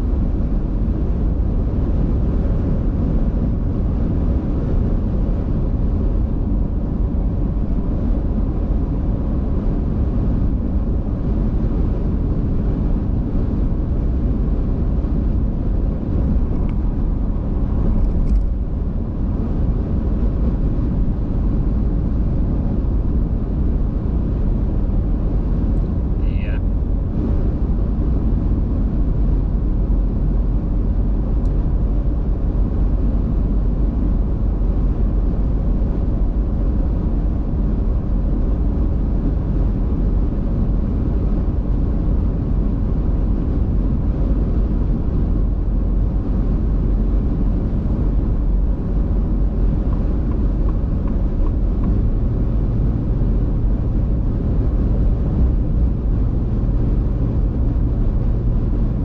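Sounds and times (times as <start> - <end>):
car road and engine noise: 0.0 - 59.0
low hum: 0.0 - 59.0.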